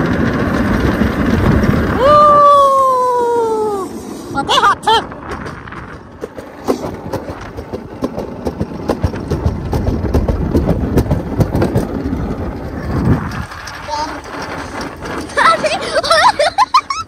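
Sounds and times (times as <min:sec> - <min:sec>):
coaster sled rattling rumble: 0:00.0 - 0:17.0.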